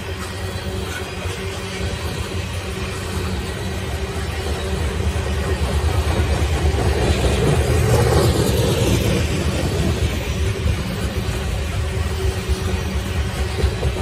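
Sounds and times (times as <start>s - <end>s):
train cars rumbling on rails: 0.0s - 14.0s.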